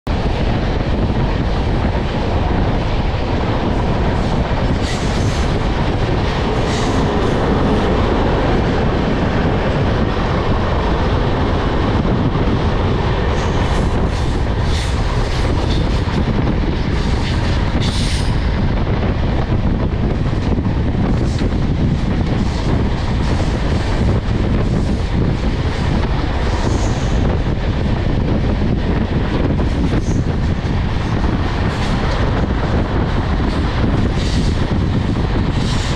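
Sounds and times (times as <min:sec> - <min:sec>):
train wheels rumbling on rail: 0:00.0 - 0:35.9
rushing air: 0:00.1 - 0:35.9.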